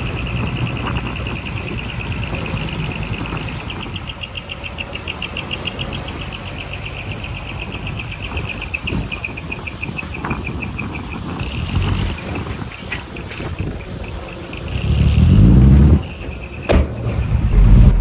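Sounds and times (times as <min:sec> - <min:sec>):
heavy machinery diesel rumble: 0:00.0 - 0:18.0.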